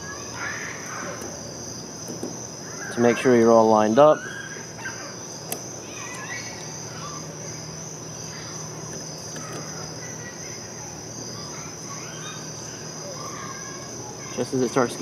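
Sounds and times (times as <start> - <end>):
crickets chirring: 0.0 - 15.0
faint bird chirps: 2.6 - 14.9.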